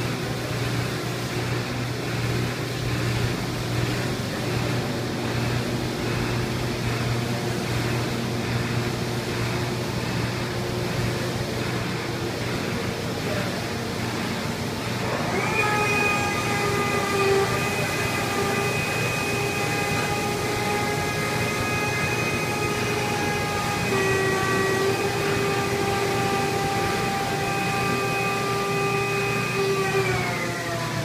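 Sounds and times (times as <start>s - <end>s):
factory background hum: 0.0s - 31.0s
machinery whine: 0.0s - 31.0s.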